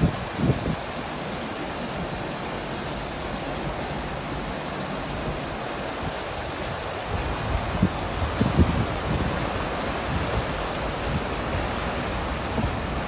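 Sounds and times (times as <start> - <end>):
floodwater rushing over car: 0.0 - 13.0.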